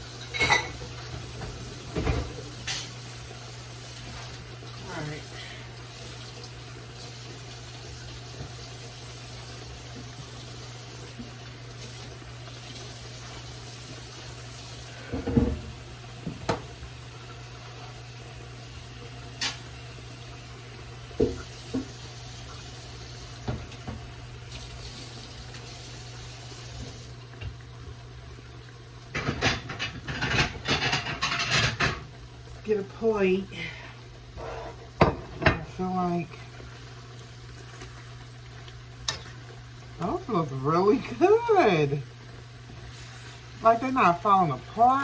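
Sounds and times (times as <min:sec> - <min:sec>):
mushrooms sizzling in hot oil: 0:00.0 - 0:45.0.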